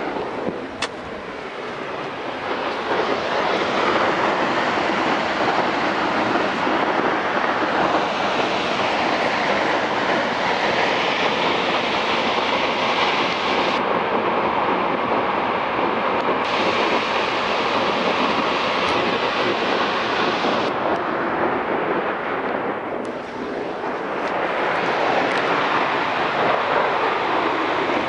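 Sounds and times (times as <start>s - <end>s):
water rushing from dam outlet: 0.0s - 21.3s, 23.1s - 28.0s.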